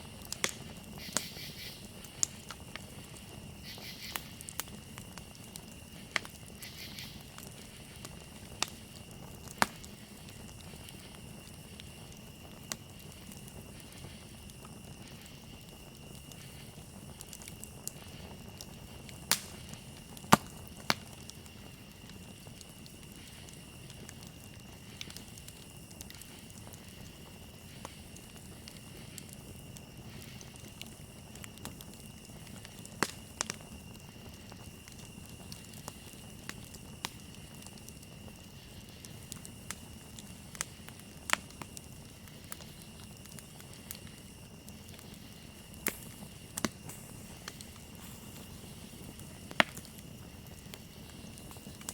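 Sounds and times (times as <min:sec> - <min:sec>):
campfire crackling and popping: 0:00.0 - 0:51.9
crickets trilling: 0:00.0 - 0:51.9.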